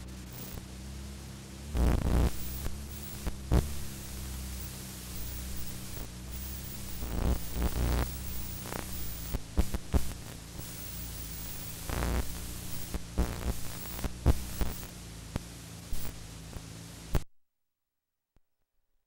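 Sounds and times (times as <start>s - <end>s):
recording hiss: 0.0s - 17.2s
mains hum: 0.0s - 17.3s.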